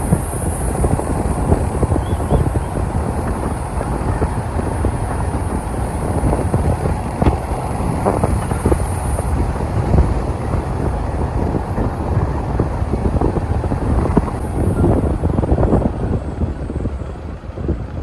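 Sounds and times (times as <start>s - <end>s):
car road noise: 0.0s - 18.0s
wind buffeting microphone: 0.0s - 18.0s.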